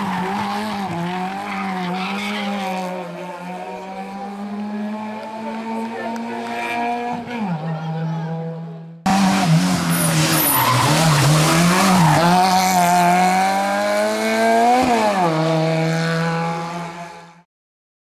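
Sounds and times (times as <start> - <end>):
rally car engine revving: 0.0 - 17.4.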